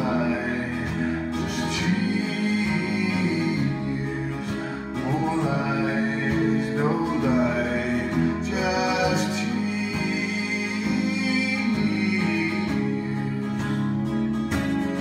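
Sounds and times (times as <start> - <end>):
person singing: 0.0 - 15.0
plucked guitar: 0.0 - 15.0.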